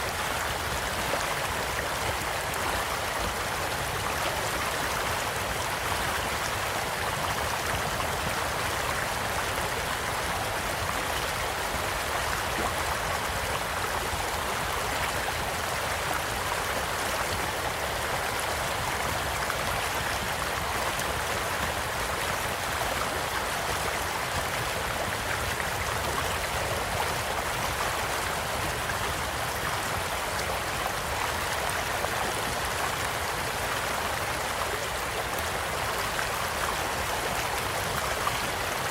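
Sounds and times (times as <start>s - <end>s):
stream water rushing and gurgling: 0.0s - 38.9s.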